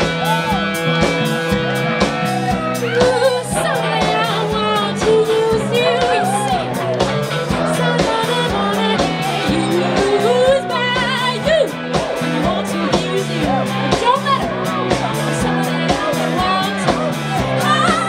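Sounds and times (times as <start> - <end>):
bass: 0.0 - 18.0
guitar: 0.0 - 18.0
steady drum beat: 0.0 - 18.0
person singing: 2.2 - 18.0.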